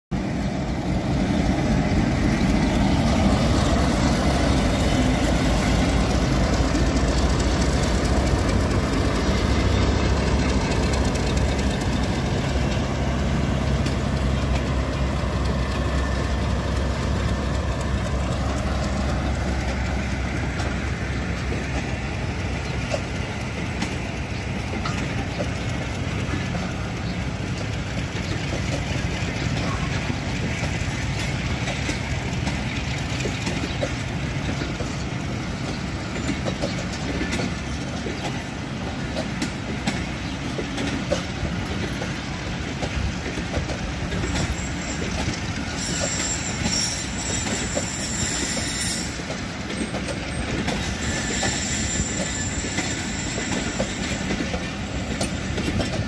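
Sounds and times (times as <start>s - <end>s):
coaches rolling on rails: 0.1s - 56.0s
diesel locomotive engine drone: 0.1s - 56.0s.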